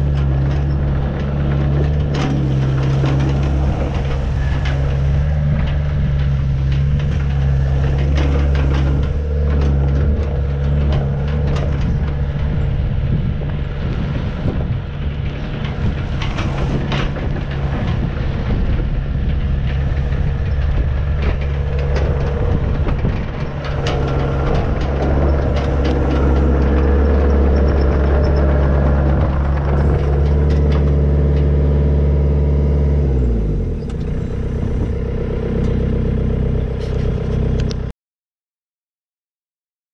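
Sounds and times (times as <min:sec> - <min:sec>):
machine clanks and knocks: 0:00.0 - 0:35.9
excavator diesel engine running: 0:00.0 - 0:37.9.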